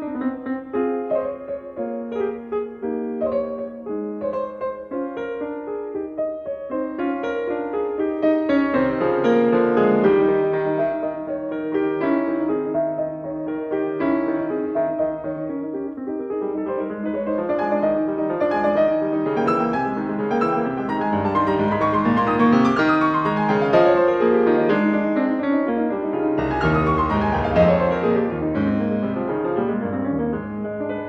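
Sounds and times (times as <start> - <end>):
piano music with rippling runs: 0.0 - 31.0.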